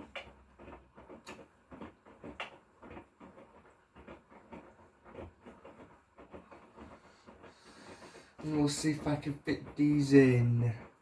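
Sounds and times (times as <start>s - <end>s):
laundry rustling: 0.0s - 11.0s.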